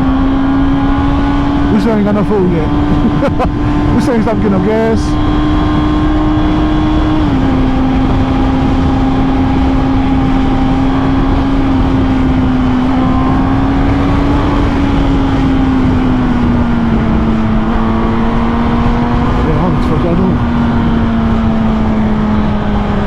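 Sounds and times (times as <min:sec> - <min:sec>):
motorcycle engine cruising: 0:00.0 - 0:23.0
wind rush on microphone: 0:00.0 - 0:23.0.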